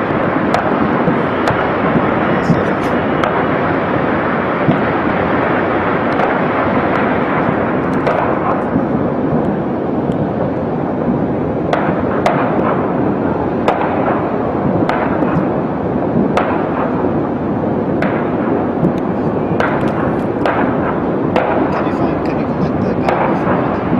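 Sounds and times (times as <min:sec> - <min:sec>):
fire roaring: 0:00.0 - 0:23.9
sharp cracks and pops of fire: 0:00.0 - 0:23.9.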